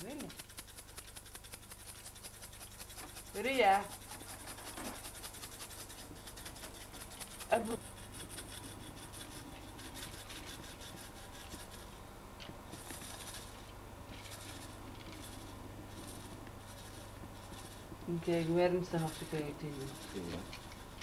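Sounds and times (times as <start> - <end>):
faint rustling and handling: 0.0 - 21.0
steady hiss and hum: 0.0 - 21.0.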